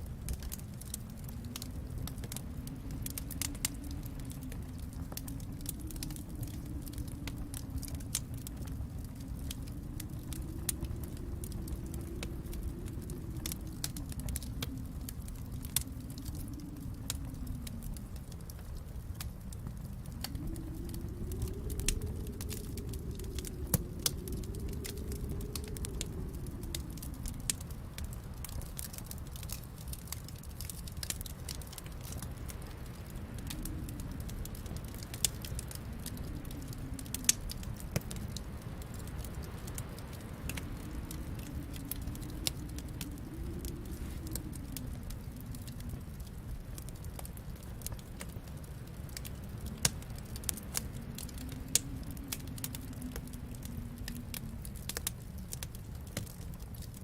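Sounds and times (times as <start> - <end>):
low steady rumble: 0.0 - 57.0
wind howling: 0.0 - 57.0
wood fire crackling: 0.0 - 57.0
fire pops: 0.2 - 57.0.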